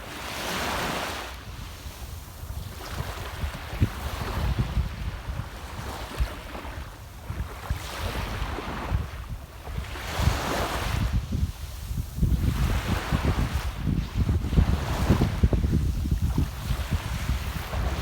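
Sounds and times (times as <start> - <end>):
sea waves breaking on shore: 0.0 - 18.0
wind buffeting microphone: 1.4 - 18.0.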